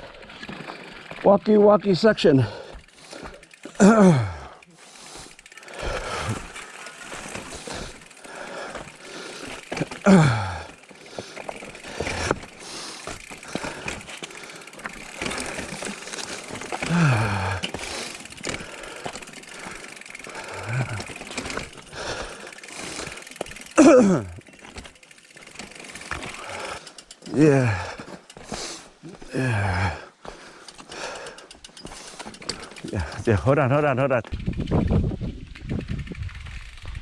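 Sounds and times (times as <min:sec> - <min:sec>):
bike rattling: 0:00.0 - 0:37.0
scuffing footsteps on trail: 0:02.2 - 0:03.9, 0:04.9 - 0:33.2.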